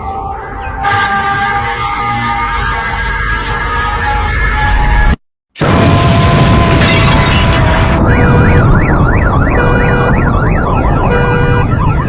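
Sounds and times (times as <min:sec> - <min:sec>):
emergency siren warbling: 0:00.0 - 0:12.0.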